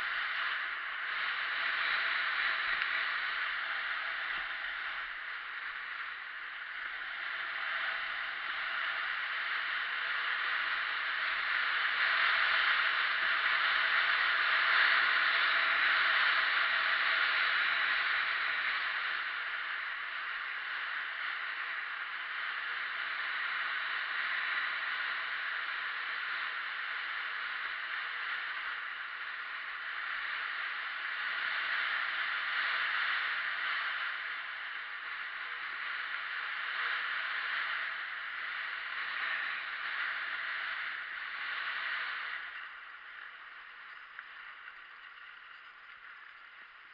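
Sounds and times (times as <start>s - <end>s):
skis sliding over snow: 0.0s - 46.9s.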